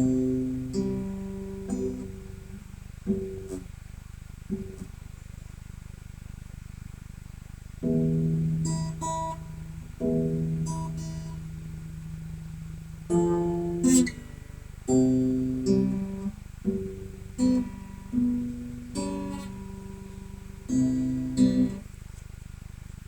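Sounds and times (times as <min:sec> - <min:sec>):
acoustic guitar: 0:00.0 - 0:03.8, 0:04.4 - 0:05.0, 0:07.8 - 0:22.3
low steady hum: 0:00.0 - 0:23.0.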